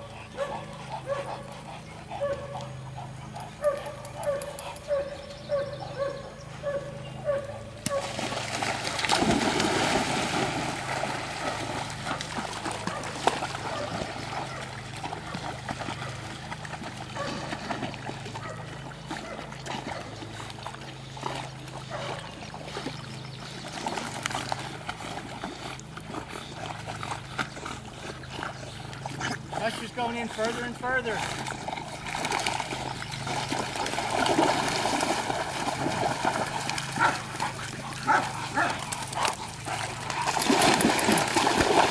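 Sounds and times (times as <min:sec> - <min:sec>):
water sloshing around swimming dogs: 0:00.0 - 0:41.9
dogs splashing into water: 0:07.8 - 0:41.9.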